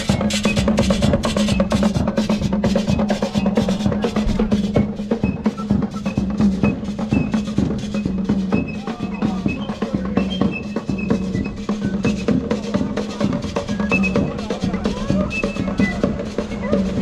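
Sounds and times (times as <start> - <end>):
fast drum beat: 0.0 - 17.0.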